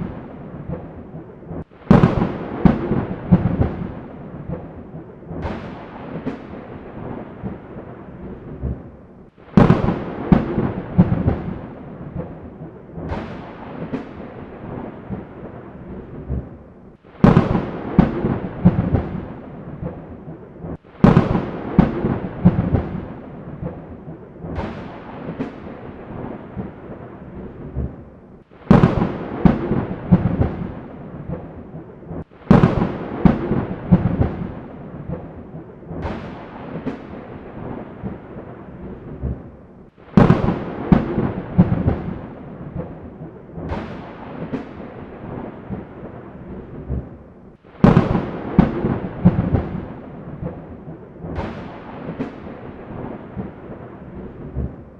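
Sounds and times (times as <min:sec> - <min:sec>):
thunder cracks and rumble: 0:00.0 - 0:54.9.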